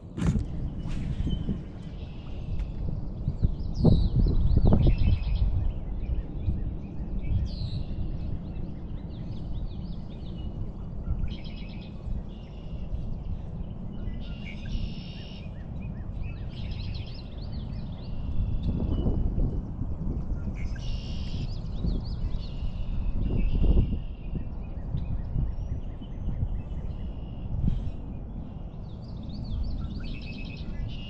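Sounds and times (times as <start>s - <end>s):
songbirds singing trills: 0.0s - 31.0s
steady low rumble: 0.0s - 31.0s.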